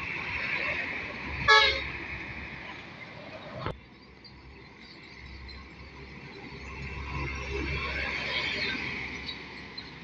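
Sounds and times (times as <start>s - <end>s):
road noise: 0.0s - 10.0s
truck approaching: 0.0s - 10.0s.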